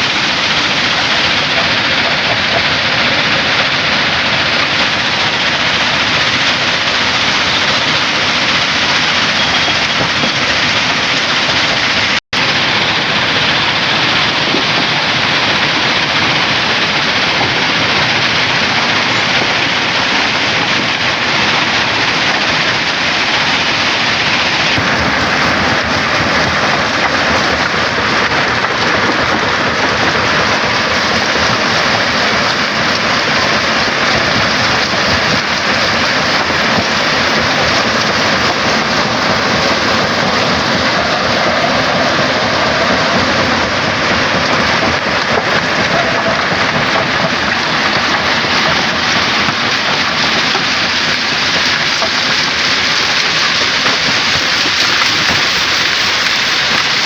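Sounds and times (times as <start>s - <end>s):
stone crusher crunching rock: 0.0s - 57.0s.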